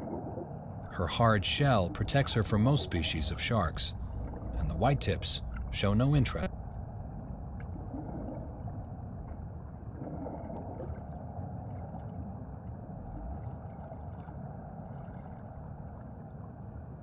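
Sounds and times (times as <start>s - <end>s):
underwater water wash: 0.0s - 17.0s.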